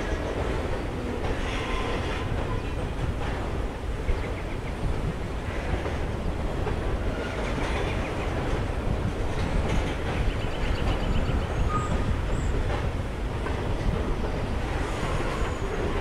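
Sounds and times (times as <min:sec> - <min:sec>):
train rumbling across bridge: 0:00.0 - 0:16.0.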